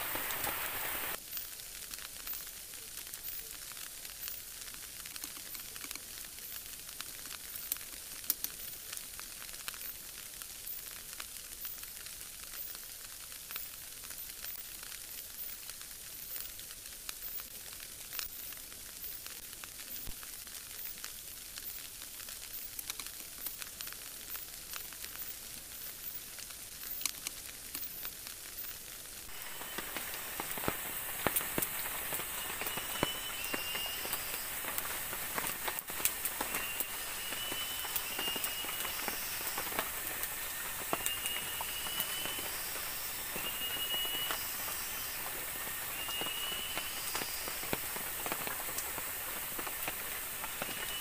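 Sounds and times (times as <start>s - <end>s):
campfire crackling: 0.0s - 51.0s
light rain hiss: 0.0s - 51.0s.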